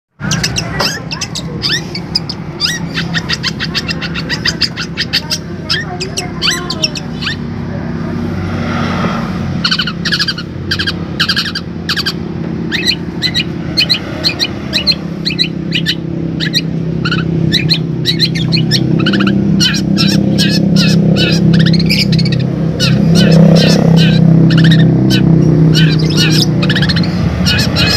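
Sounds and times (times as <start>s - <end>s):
bird giving sharp chirps: 0.2s - 7.5s, 9.4s - 27.9s.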